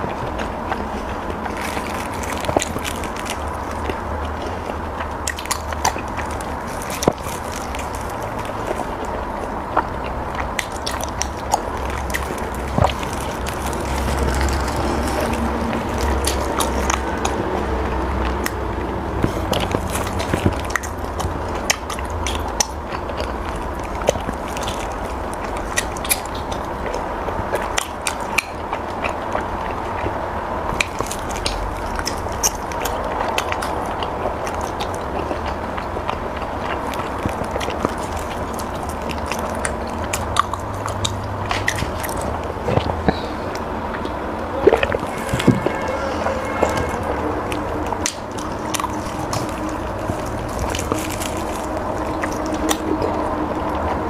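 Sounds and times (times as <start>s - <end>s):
chewing soft cake: 0.0s - 54.0s
mouth clicks: 0.0s - 54.0s
steady background hum: 0.0s - 54.0s.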